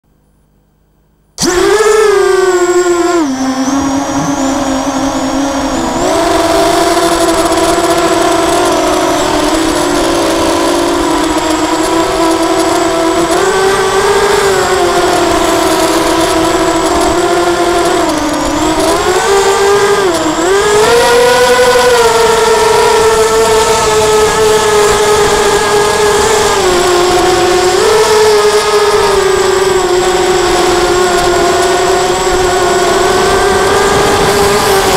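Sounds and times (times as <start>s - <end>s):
quadcopter motors whining: 1.4s - 34.9s.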